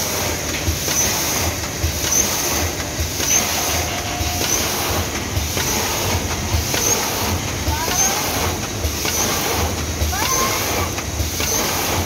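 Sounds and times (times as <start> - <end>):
packing machine clattering: 0.0 - 12.0.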